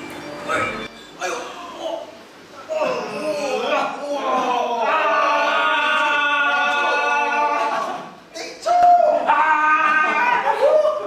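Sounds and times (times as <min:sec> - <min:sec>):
young men yelling and screaming: 0:01.8 - 0:11.0.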